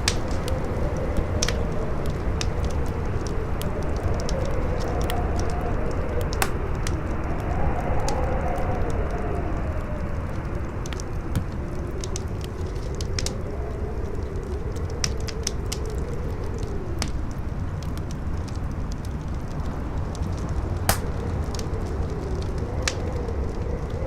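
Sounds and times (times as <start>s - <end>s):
howling wind: 0.0s - 24.0s
wood fire crackling and popping: 0.0s - 24.0s.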